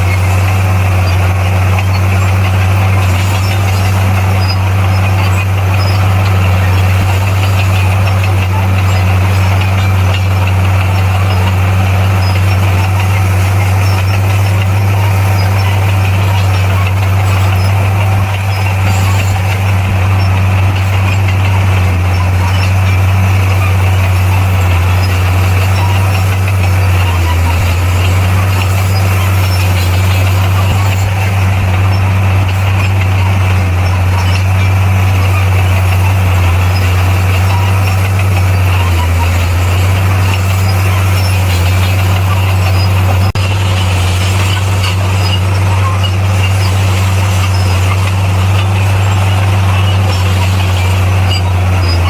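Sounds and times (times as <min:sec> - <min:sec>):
heavy machinery diesel engine running: 0:00.0 - 0:52.0.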